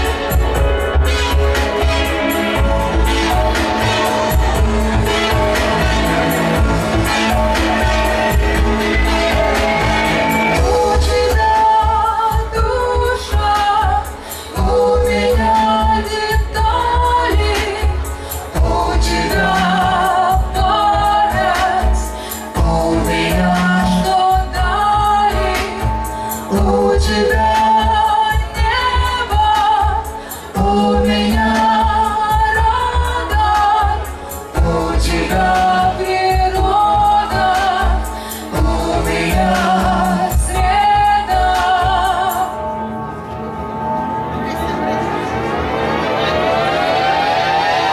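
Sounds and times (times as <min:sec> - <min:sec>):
synth-pop keyboards and beat: 0:00.0 - 0:42.5
woman singing: 0:01.6 - 0:42.9.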